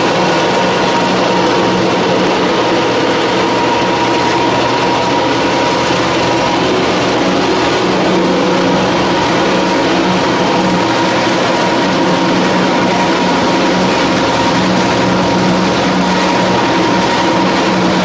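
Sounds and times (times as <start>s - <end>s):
pellet mill mechanical drone: 0.0s - 18.0s.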